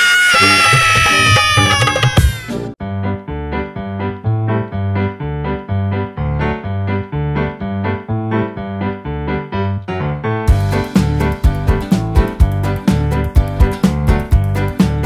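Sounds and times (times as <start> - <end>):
keyboard melody over bass line: 0.4 - 15.0.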